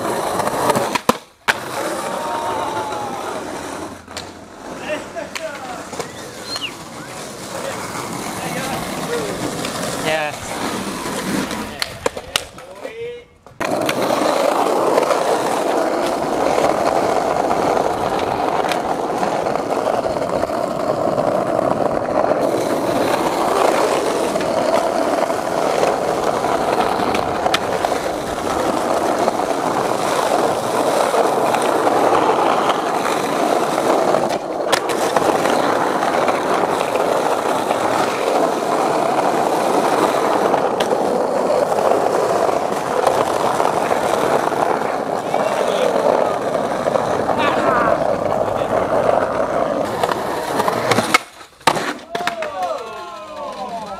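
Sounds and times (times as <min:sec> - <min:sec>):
skateboard clacks: 0:00.0 - 0:53.9
skateboard wheels rolling on asphalt: 0:00.0 - 0:53.9.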